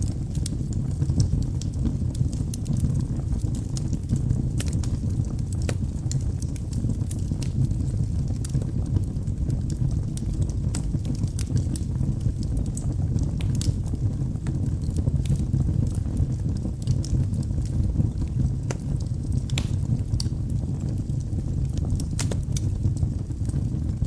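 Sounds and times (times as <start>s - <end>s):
flames rushing: 0.0s - 24.0s
logs crackling and popping: 0.0s - 24.0s.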